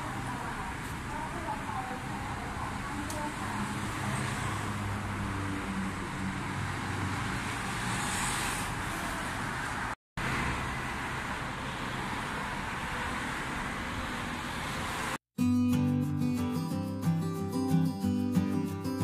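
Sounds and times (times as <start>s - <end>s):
road traffic: 0.0s - 15.2s.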